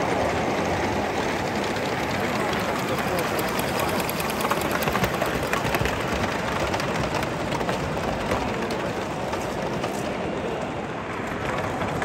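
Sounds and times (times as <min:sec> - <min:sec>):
model train wheels rumbling on rail: 0:00.0 - 0:12.0.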